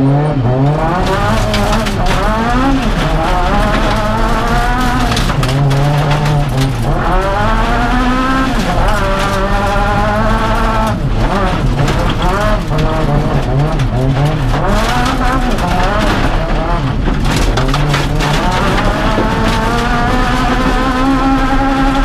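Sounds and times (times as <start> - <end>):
rally car engine revving: 0.0 - 22.0
tyres on loose gravel: 0.6 - 22.0
stones clicking against car: 0.7 - 22.0.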